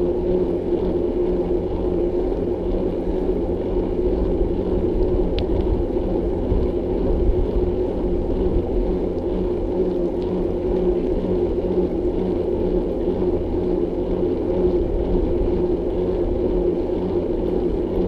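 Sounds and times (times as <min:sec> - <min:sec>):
low hum: 0:00.0 - 0:18.0
wind rumbling on microphone: 0:00.0 - 0:18.0.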